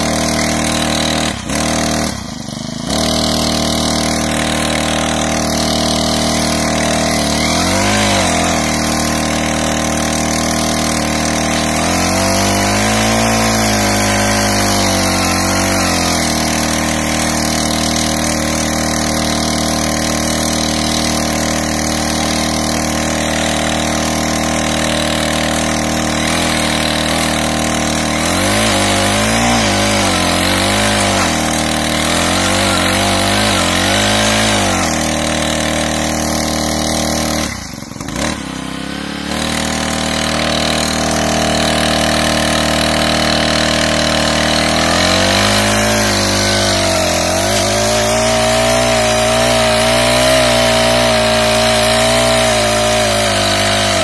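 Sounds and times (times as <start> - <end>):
small engine running: 0.0 - 54.0
tiller tines digging soil: 0.0 - 54.0.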